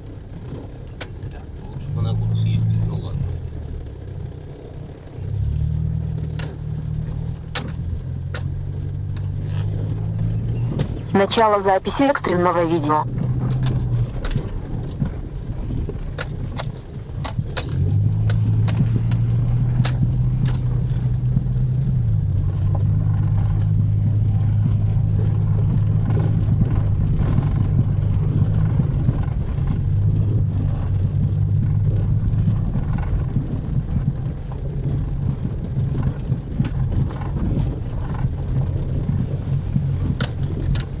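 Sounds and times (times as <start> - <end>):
small clicks and rattles: 0.0 - 11.5, 13.0 - 41.0
engine and road drone in car: 0.0 - 41.0.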